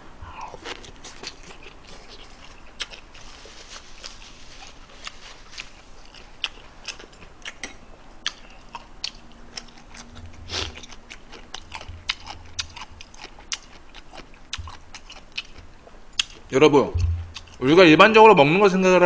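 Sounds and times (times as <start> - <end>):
person chewing with wet smacks: 0.3 - 17.6.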